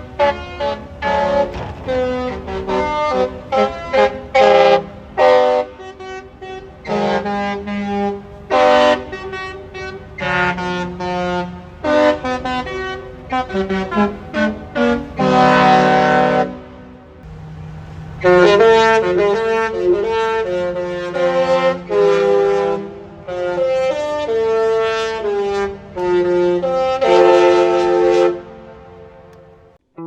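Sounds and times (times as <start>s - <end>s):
ship horn playing a tune: 0.0s - 29.7s.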